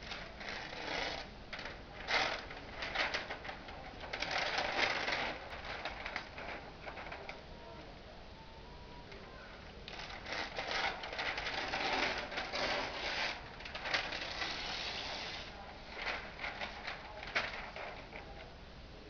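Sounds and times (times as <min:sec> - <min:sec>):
paper sheet rustling and crackling: 0:00.0 - 0:07.5, 0:09.8 - 0:18.6.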